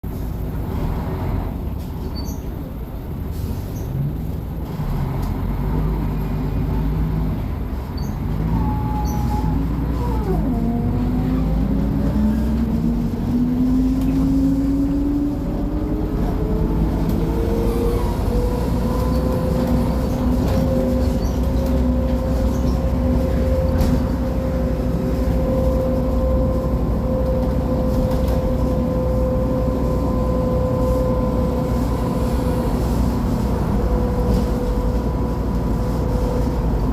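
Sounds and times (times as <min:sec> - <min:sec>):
bus diesel engine rumble: 0:00.0 - 0:36.9.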